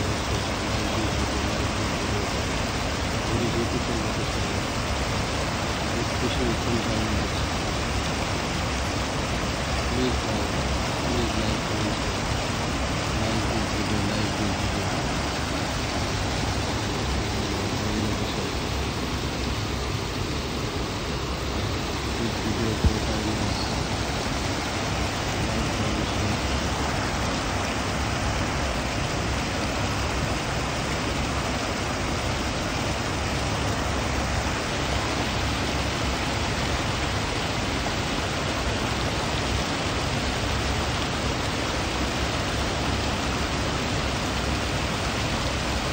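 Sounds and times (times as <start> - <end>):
water rushing over a weir: 0.0 - 45.9.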